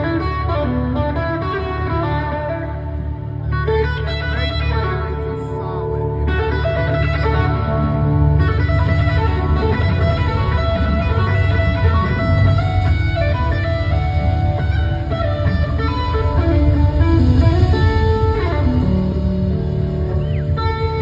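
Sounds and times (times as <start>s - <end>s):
electric guitar solo: 0.0s - 21.0s
live rock band playing: 0.0s - 21.0s.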